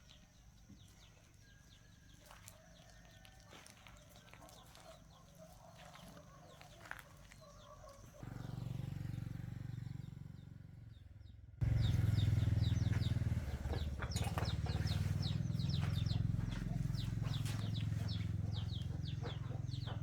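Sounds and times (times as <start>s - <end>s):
birds chirping: 0.0s - 8.4s, 10.0s - 20.0s.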